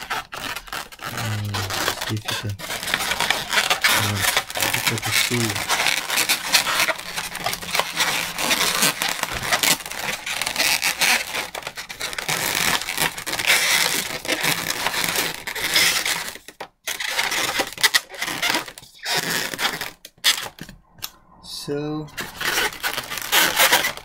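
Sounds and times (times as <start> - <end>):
balloons rubbing together: 0.0 - 21.2, 22.1 - 24.0.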